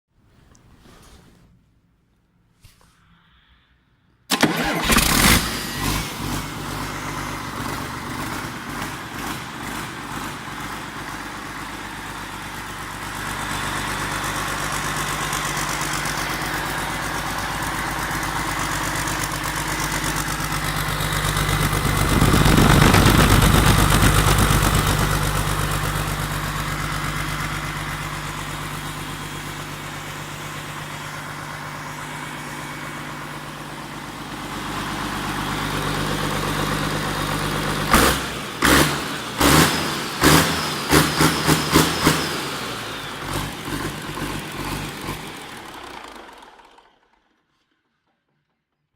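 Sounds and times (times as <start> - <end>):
diesel engine idling: 4.3 - 47.3.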